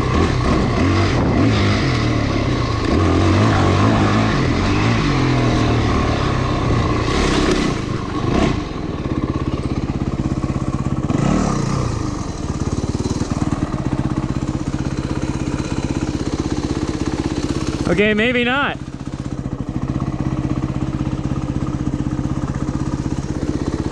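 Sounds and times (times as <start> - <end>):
motorcycle engine: 0.0 - 23.9.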